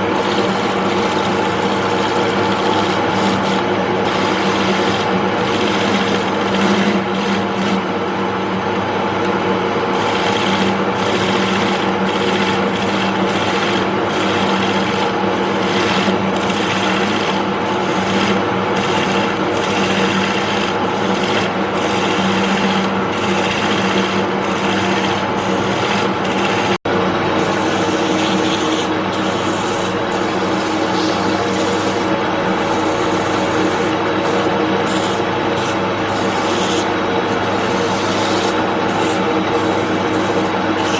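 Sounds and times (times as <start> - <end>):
tool scraping spinning wood: 0.0 - 40.9
wood lathe motor hum: 0.0 - 40.9.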